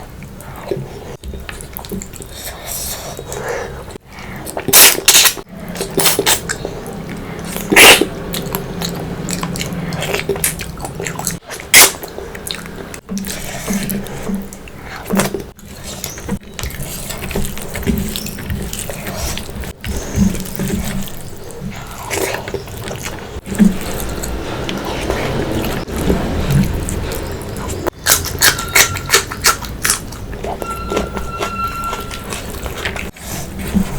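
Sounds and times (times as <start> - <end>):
wet chewing and lip smacking: 0.2 - 33.9.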